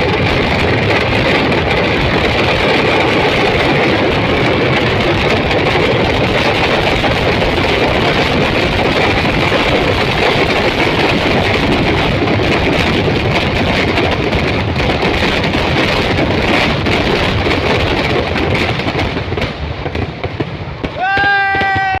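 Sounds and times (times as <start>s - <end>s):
firecrackers banging: 0.0s - 22.0s.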